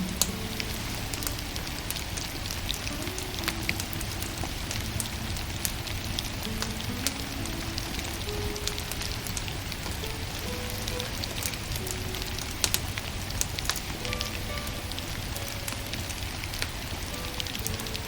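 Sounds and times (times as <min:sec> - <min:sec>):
firewood crackling and popping: 0:00.0 - 0:18.0
soft slow music: 0:00.0 - 0:18.0.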